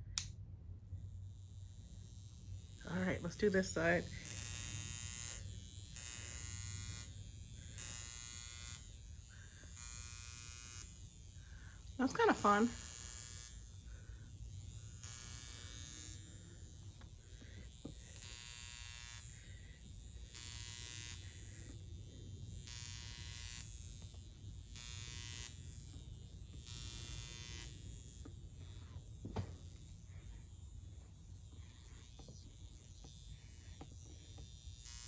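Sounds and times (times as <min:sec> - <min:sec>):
high-pitched electric buzz: 0:00.9 - 0:35.0.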